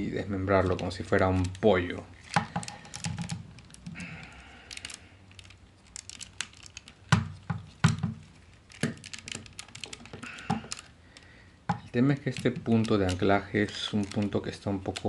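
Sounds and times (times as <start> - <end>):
plastic toy parts clicking: 0.6 - 15.0.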